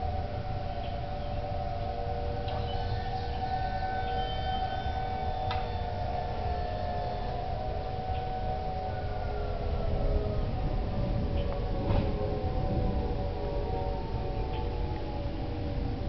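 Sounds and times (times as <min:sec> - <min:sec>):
low rumble: 0:00.0 - 0:16.0
warning sirens steady tone: 0:00.0 - 0:16.0.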